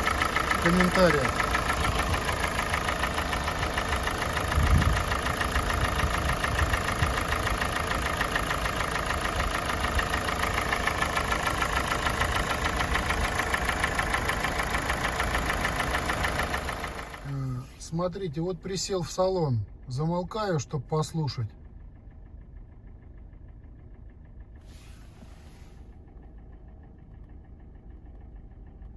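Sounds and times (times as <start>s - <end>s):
car engine idling with ringing knock: 0.0s - 17.6s, 21.3s - 28.9s.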